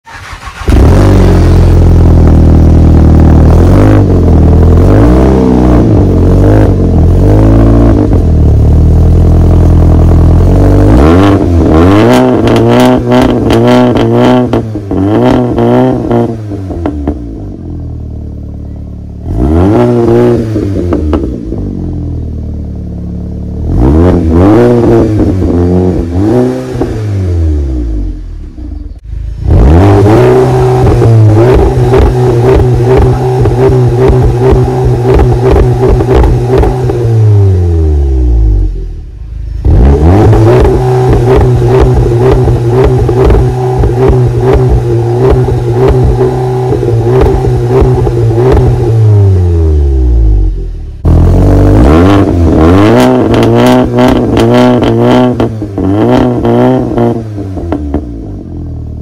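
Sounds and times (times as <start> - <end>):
exhaust crackles: 0.0 - 59.0
car exhaust revving in blips: 0.6 - 59.0.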